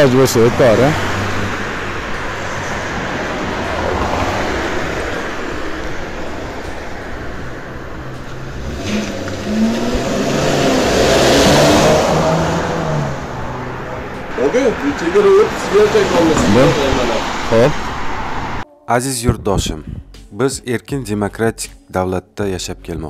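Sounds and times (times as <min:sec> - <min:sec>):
car passing close by: 0:00.0 - 0:18.6
road traffic hum: 0:00.0 - 0:18.7.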